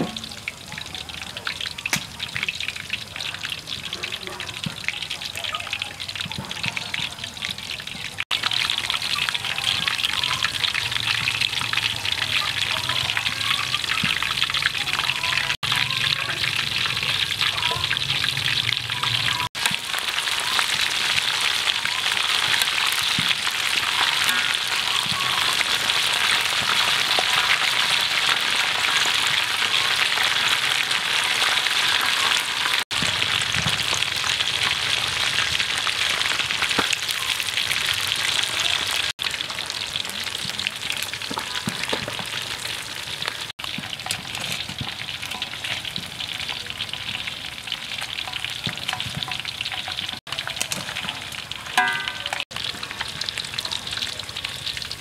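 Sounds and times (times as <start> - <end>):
food deep-frying in hot oil: 0.0 - 55.0.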